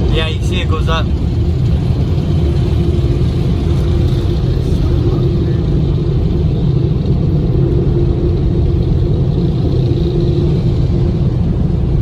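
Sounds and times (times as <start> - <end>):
car wash machine rumble: 0.0 - 12.0
constant hum: 0.0 - 12.0.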